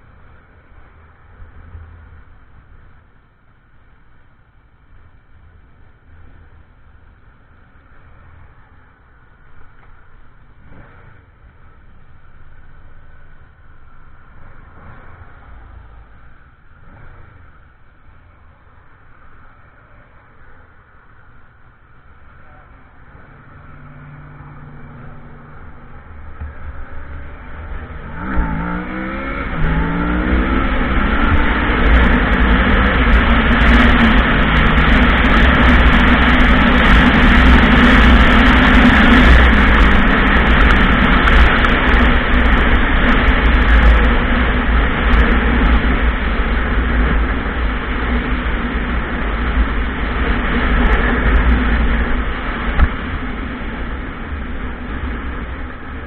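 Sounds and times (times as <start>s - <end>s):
rushing noise at speed: 5.5s - 56.0s.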